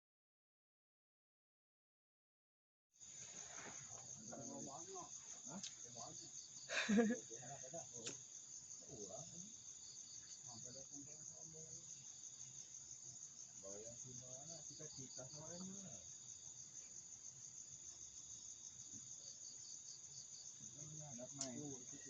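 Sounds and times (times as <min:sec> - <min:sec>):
high-pitched insect chorus trilling: 0:03.0 - 0:22.0
pulsing insect trill: 0:03.0 - 0:22.0.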